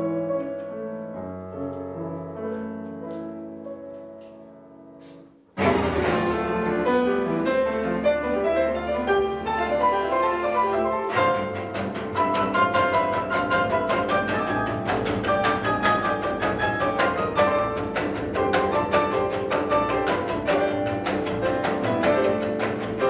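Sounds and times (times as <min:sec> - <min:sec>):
piano and bowed strings: 0:00.0 - 0:23.0.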